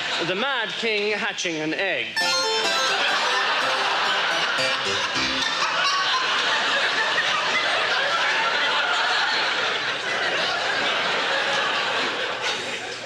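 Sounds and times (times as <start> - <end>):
audience laughing: 2.5 - 13.0.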